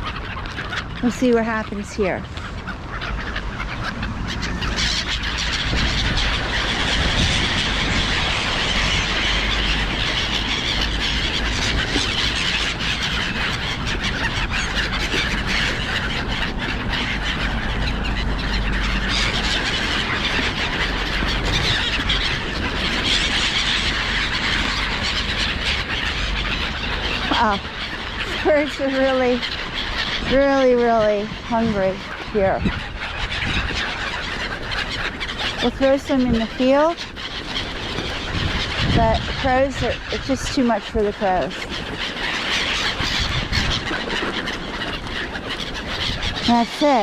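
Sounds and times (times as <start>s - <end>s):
gulls squealing and calling: 0.0s - 47.0s.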